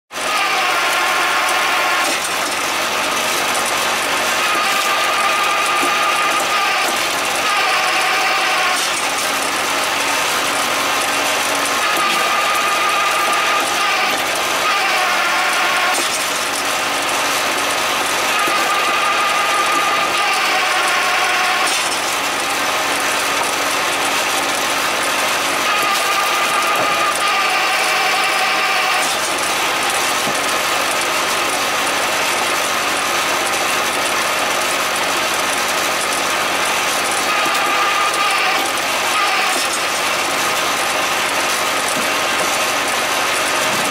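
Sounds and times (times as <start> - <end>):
log splitter mechanical drone: 0.1 - 43.9
high mechanical whine: 0.2 - 43.9.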